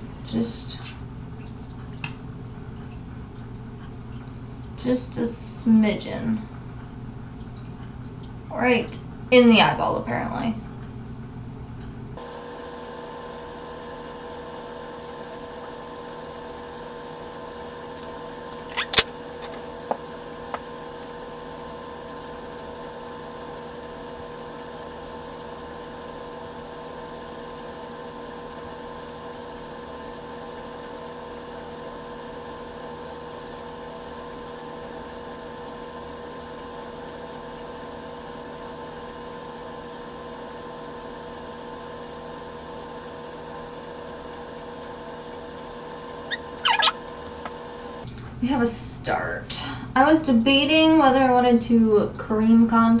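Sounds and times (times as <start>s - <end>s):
aquarium filter pump hum: 0.0s - 53.0s.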